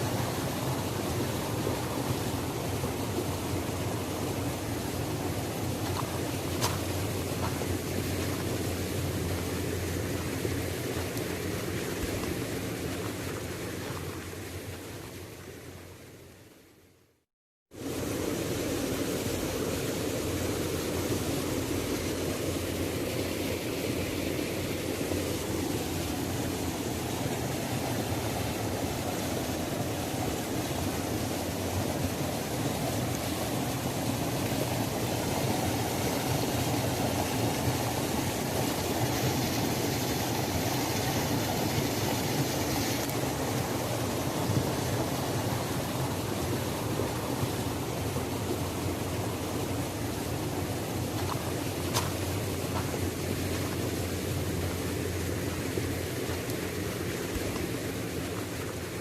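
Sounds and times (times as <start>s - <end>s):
waterfall rushing: 0.0s - 14.5s, 17.8s - 59.0s.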